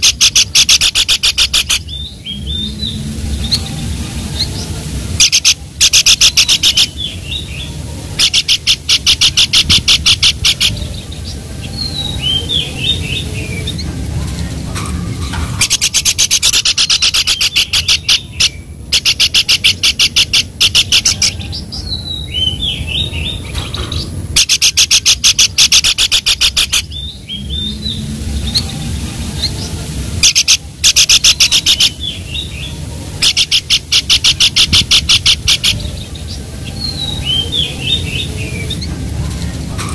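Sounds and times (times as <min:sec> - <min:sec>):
bird chattering calls: 0:00.0 - 0:03.6, 0:05.2 - 0:13.9, 0:15.1 - 0:28.8, 0:30.2 - 0:38.9.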